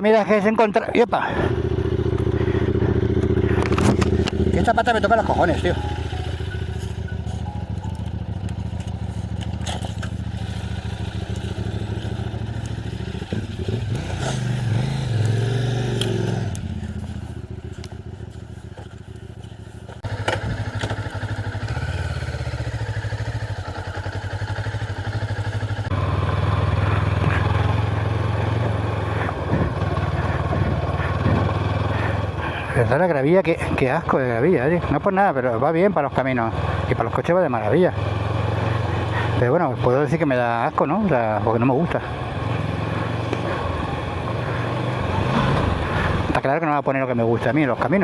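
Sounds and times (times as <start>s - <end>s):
motorcycle engine revving: 0.3s - 48.0s.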